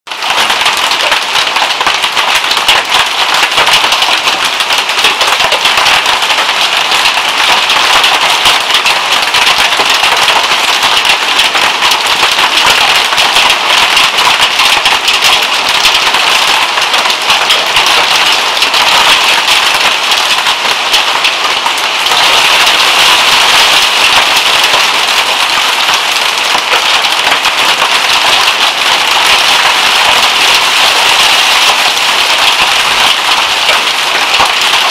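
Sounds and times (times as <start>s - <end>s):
hail and rain pelting on roof: 0.1s - 34.9s.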